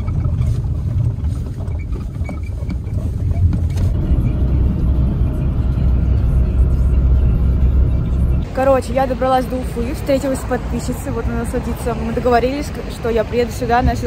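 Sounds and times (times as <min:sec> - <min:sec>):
vehicle rumble inside cabin: 0:00.0 - 0:14.0.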